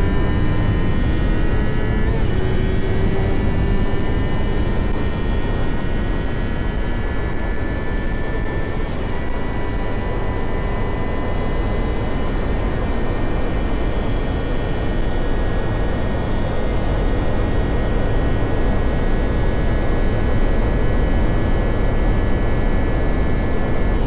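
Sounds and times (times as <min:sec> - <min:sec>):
motorcycle engine whine: 0:00.0 - 0:24.0.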